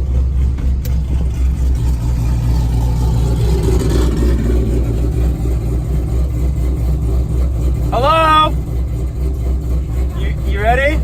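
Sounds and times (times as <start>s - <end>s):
car engine idling rumble: 0.0s - 11.0s.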